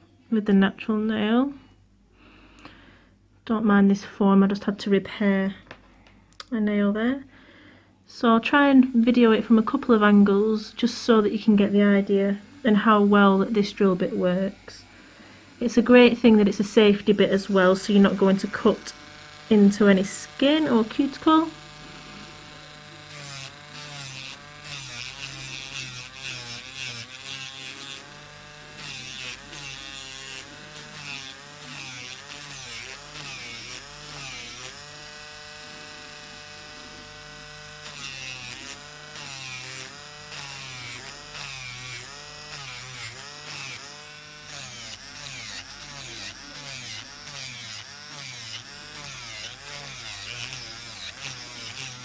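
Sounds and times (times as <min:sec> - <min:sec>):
electric nail drill whirring: 0:08.8 - 0:52.0
drill bit grinding on nail: 0:08.9 - 0:52.0.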